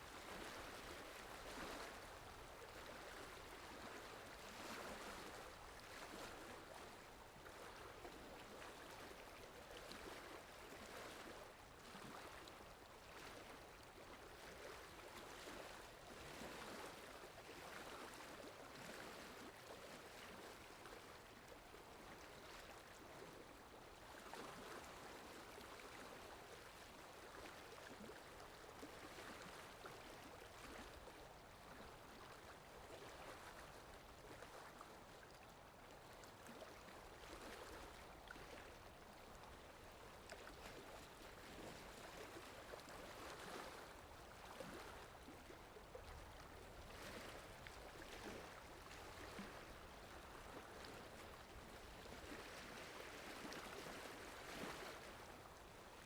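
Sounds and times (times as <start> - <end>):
faint flowing stream: 0.0 - 56.0.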